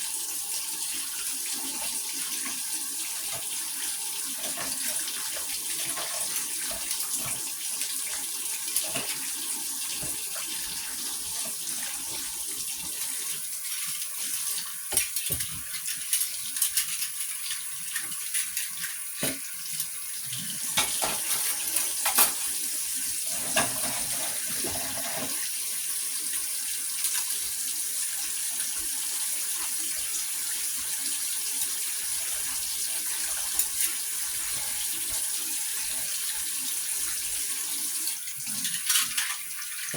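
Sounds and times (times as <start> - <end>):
water running: 0.0 - 39.9.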